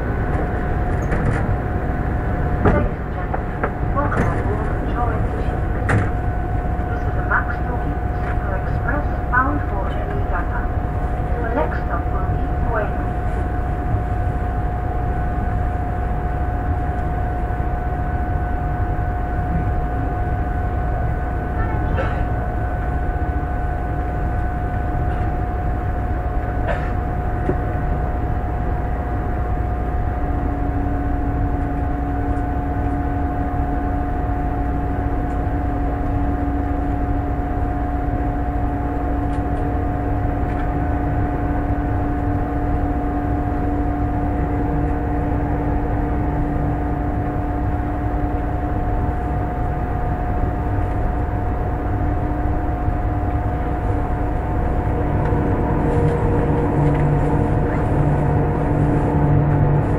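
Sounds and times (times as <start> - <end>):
low steady whine: 0.0 - 59.9
train running rumble: 0.0 - 59.9.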